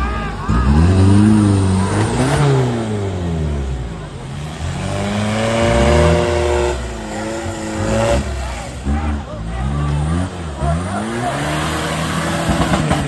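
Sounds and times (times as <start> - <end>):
pickup engine revving hard: 0.0 - 13.0.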